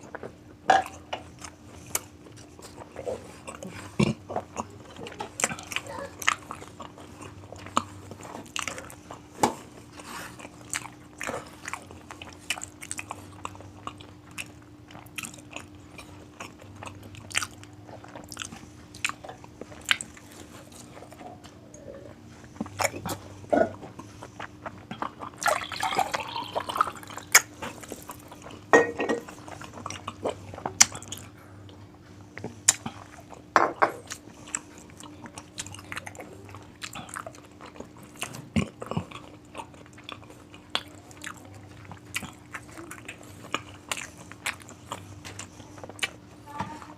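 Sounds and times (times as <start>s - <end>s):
faint steady hum: 0.0s - 46.9s
person chewing crunchy food: 0.0s - 46.9s.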